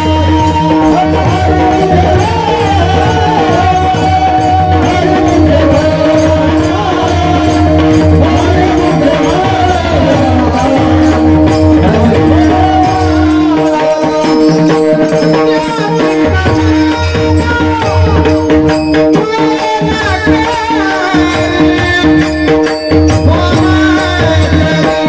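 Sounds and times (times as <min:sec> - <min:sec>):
jingling percussion: 0:00.0 - 0:25.0.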